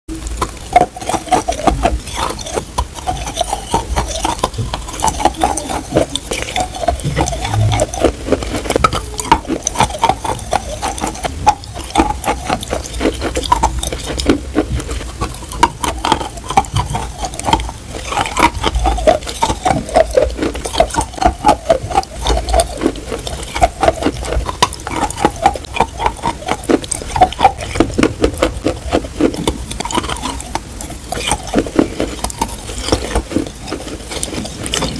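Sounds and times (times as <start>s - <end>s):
chalk being bitten and chewed: 0.1s - 34.9s.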